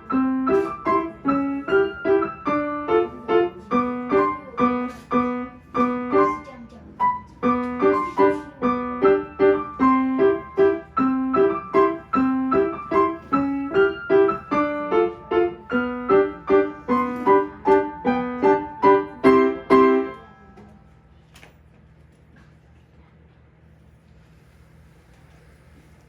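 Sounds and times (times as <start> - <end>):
piano melody: 0.0 - 21.0.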